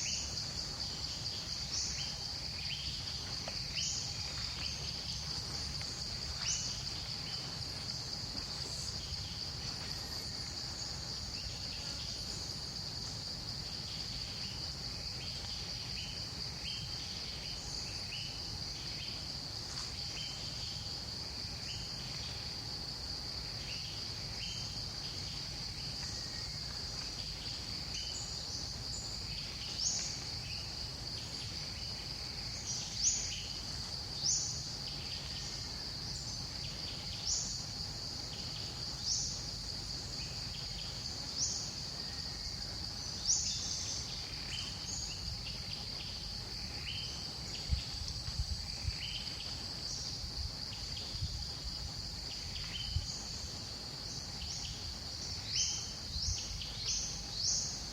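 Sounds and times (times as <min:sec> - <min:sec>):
insects shrilling drone: 0:00.0 - 0:57.9.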